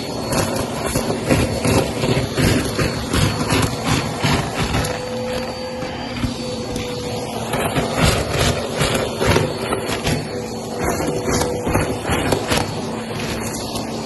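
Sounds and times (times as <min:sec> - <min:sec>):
vacuum cleaner running on carpet: 0:00.0 - 0:14.0.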